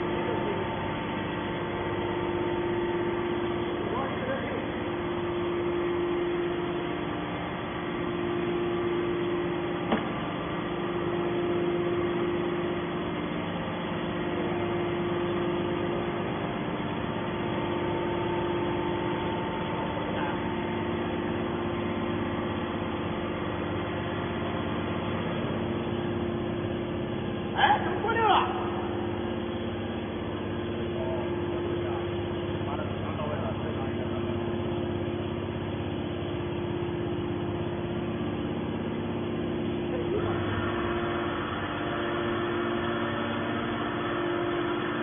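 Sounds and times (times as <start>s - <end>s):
pump motor humming: 0.0s - 45.0s.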